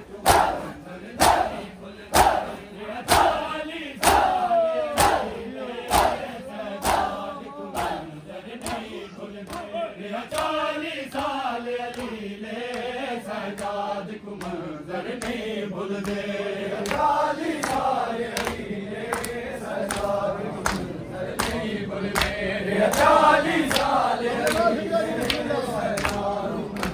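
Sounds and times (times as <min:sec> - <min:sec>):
men chanting a lament: 0:00.0 - 0:26.9.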